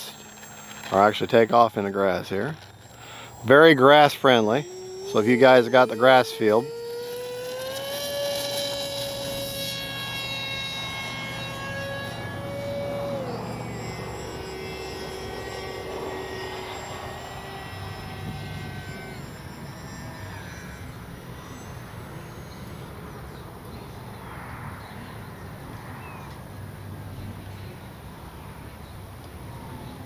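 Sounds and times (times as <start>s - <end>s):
model plane motor whining: 0.0s - 30.0s.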